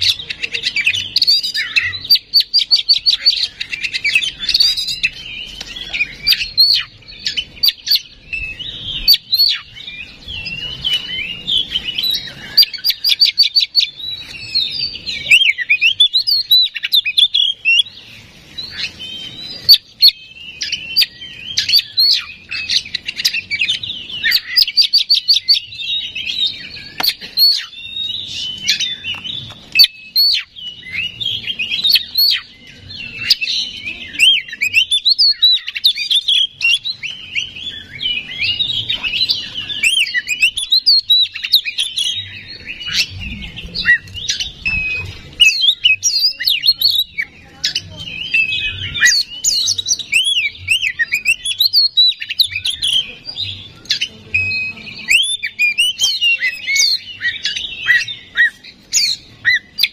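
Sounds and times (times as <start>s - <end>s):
bird singing whistled song: 0.0s - 59.9s.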